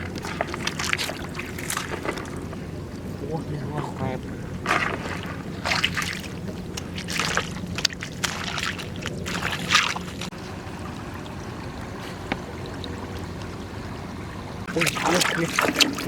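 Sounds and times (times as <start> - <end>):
steady low hum: 0.0 - 16.0
water splashing: 0.0 - 16.0.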